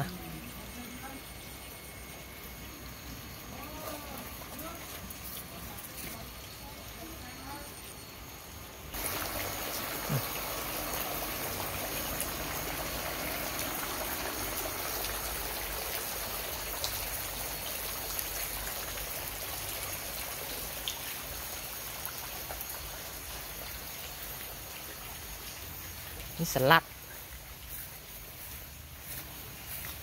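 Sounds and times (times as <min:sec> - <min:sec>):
water running and trickling: 0:00.0 - 0:30.0.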